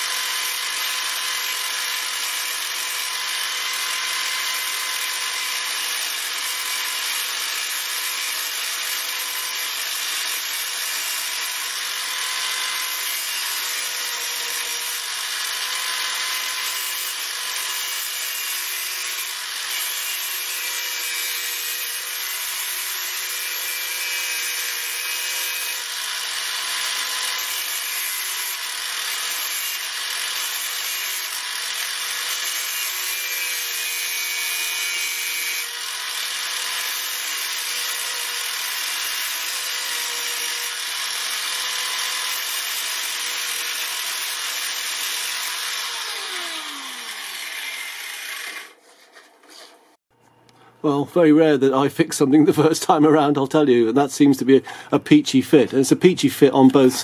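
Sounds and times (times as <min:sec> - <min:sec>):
angle grinder grinding steel: 0:00.0 - 0:49.8, 0:52.6 - 0:57.0.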